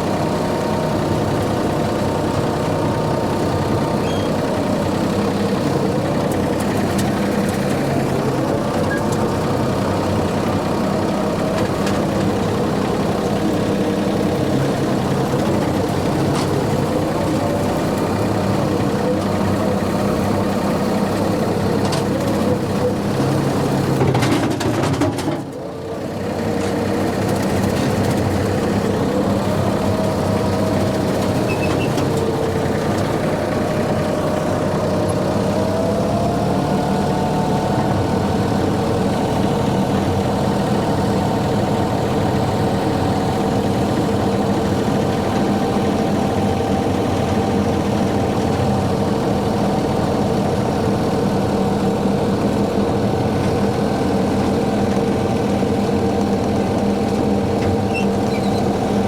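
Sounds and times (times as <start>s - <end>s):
mower whine: 0.0s - 59.0s
tractor engine running: 0.0s - 59.0s.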